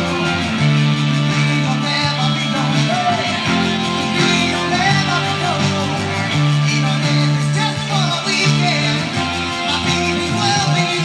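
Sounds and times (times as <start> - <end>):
song with guitar and singing: 0.0 - 11.0.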